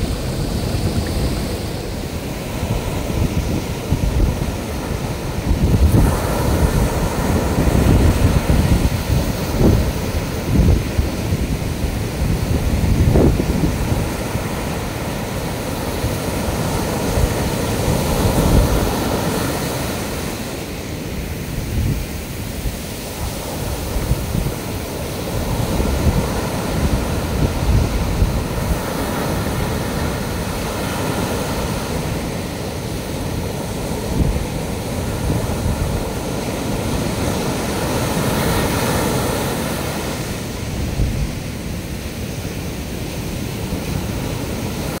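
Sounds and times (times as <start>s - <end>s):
surf roaring: 0.0s - 45.0s
wind buffeting microphone: 0.0s - 45.0s.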